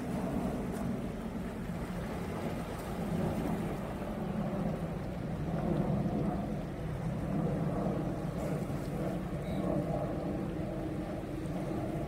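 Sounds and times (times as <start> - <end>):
sea waves washing against rocks: 0.0 - 12.0.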